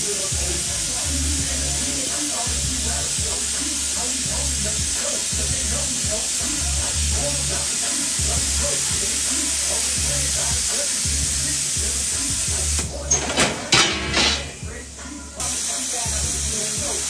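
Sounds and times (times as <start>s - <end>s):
welder arc crackling: 0.0s - 17.0s.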